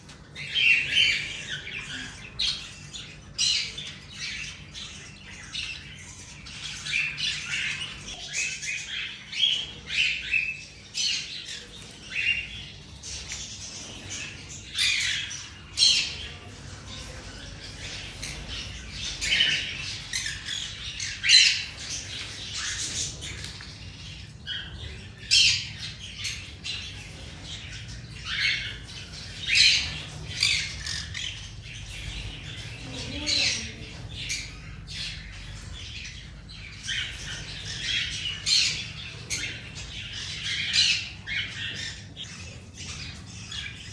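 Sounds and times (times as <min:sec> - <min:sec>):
birds squawking: 0:00.0 - 0:43.9.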